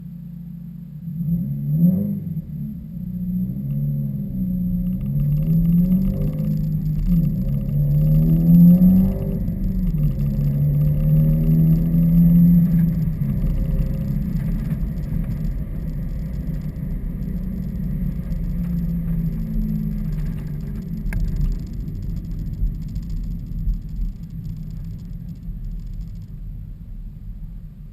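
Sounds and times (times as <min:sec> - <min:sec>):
car engine revving: 0:01.0 - 0:26.3.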